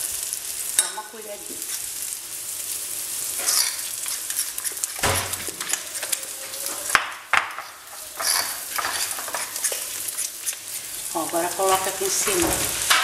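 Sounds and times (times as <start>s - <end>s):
sausage sizzling in frying pan: 0.0s - 13.0s.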